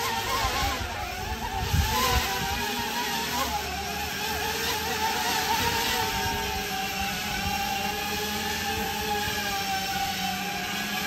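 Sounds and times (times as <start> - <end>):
drone rotors whining: 0.0 - 11.0.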